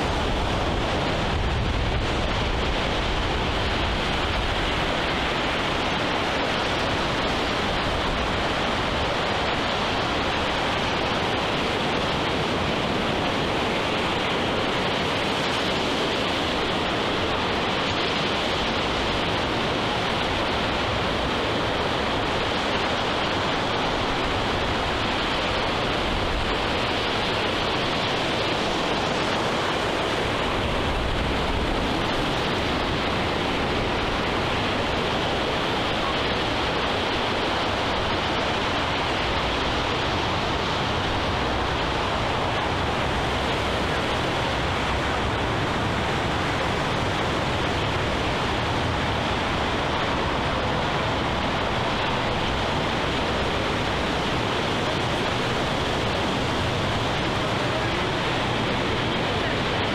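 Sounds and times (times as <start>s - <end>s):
ocean surf on rocks: 0.0s - 59.9s.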